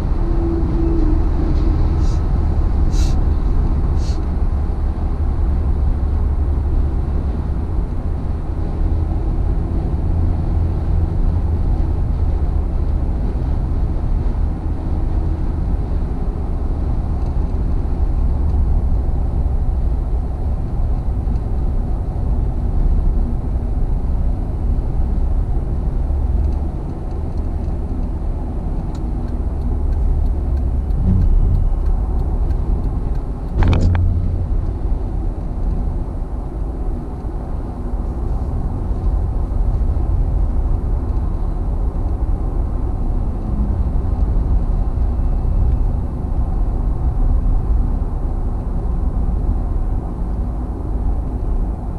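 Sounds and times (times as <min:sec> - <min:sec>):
car interior road rumble: 0:00.0 - 0:51.9.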